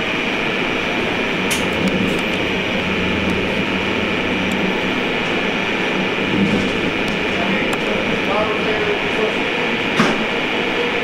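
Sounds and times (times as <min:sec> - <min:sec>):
low drone: 0:00.0 - 0:11.0
train running on track: 0:00.0 - 0:11.0.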